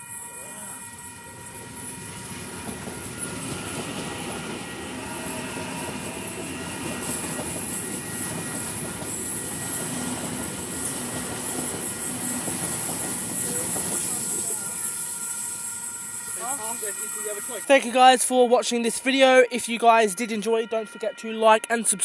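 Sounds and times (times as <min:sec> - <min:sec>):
high hiss: 0:00.0 - 0:18.5
faint whining tones: 0:00.0 - 0:22.0
train rumbling past: 0:00.0 - 0:22.0.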